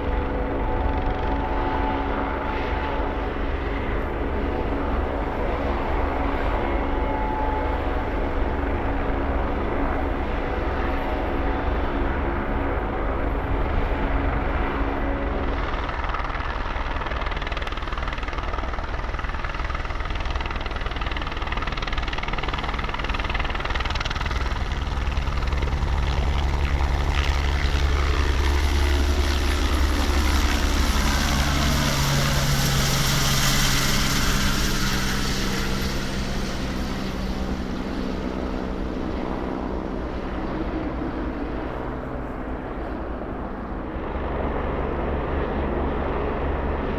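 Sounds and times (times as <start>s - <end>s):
helicopter rotor and turbine: 0.0s - 46.9s.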